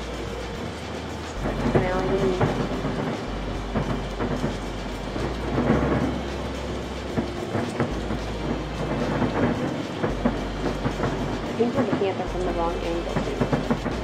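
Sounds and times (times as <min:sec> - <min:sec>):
fireworks crackling and popping: 0:00.0 - 0:14.0
loud firework bangs: 0:01.1 - 0:14.0.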